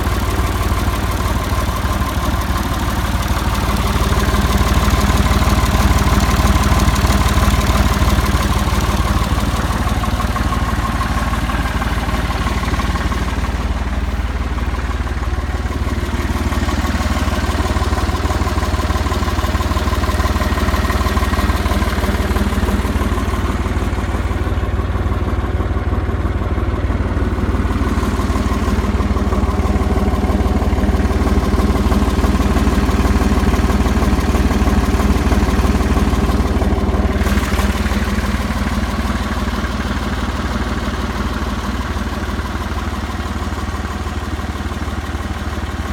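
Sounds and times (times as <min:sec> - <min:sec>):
bulldozer engine running: 0:00.0 - 0:45.9.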